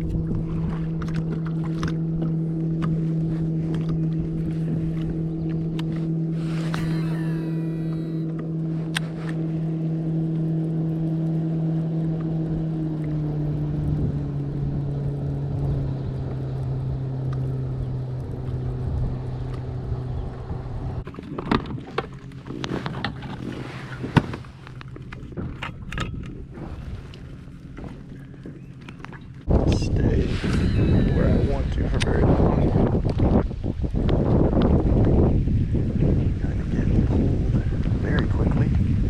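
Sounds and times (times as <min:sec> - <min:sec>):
boat motor droning: 0:00.0 - 0:39.0.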